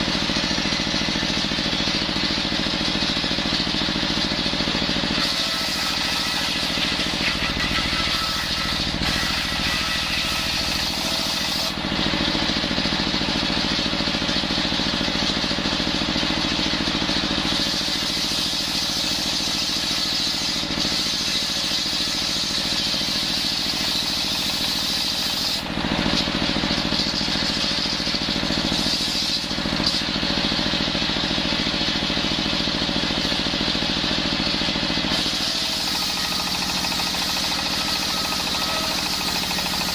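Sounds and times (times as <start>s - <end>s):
circular saw blade cutting wood: 0.0s - 12.9s, 17.2s - 30.8s, 33.1s - 39.9s
saw motor droning: 0.0s - 39.9s.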